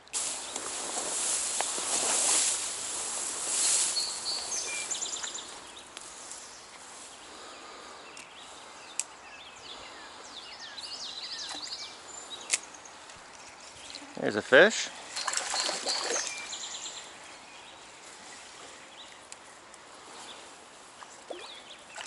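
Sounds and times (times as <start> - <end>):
outdoor background hiss: 0.0 - 22.0
small birds chirping: 0.0 - 22.0.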